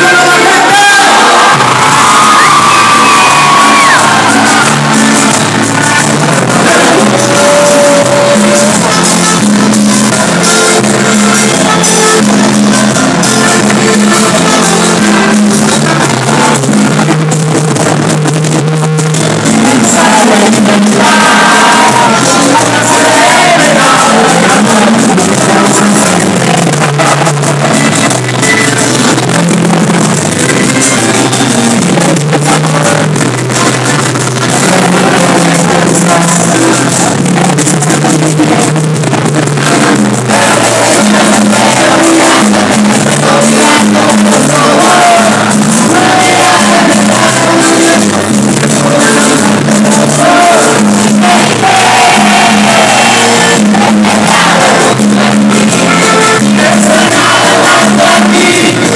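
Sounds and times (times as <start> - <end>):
live band playing: 0.0 - 58.9
person singing: 0.0 - 58.9.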